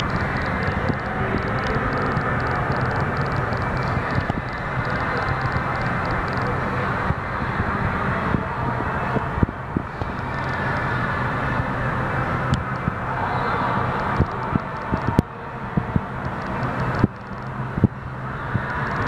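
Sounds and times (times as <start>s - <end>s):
crowd murmur: 0.0s - 19.0s
low background rumble: 0.0s - 19.0s.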